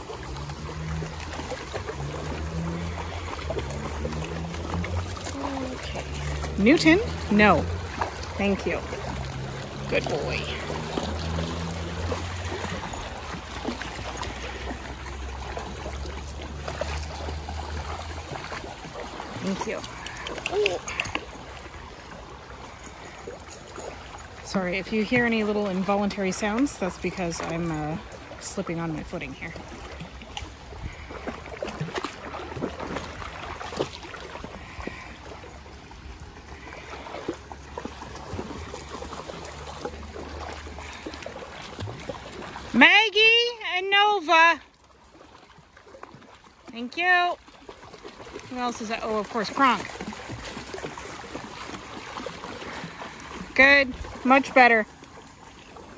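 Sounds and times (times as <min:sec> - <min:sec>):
creek water trickling over rocks: 0:00.0 - 0:55.9
dogs splashing through water: 0:00.0 - 0:55.9.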